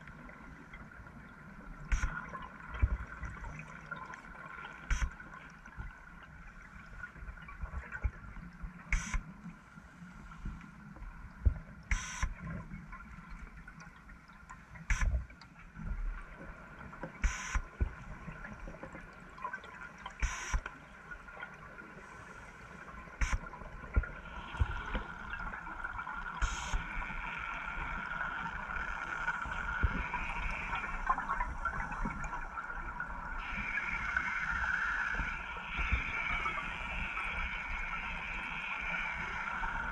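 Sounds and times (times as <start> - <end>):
steady underwater whine: 0.0 - 39.9.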